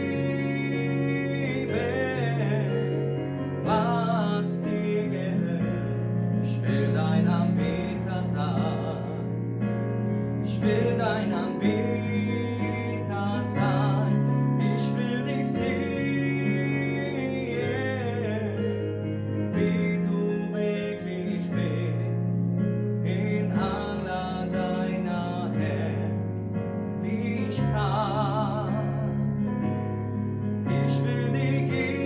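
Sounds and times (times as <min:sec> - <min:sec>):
song with keyboard and guitar: 0:00.0 - 0:32.0.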